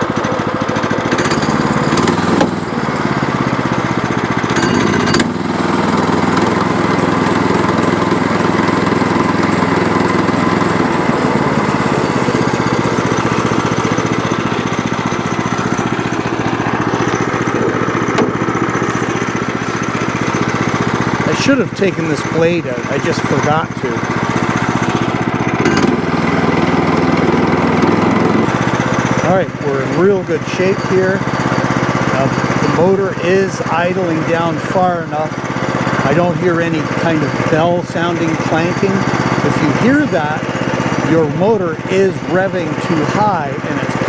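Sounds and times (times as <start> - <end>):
small gas engine running: 0.0 - 44.0.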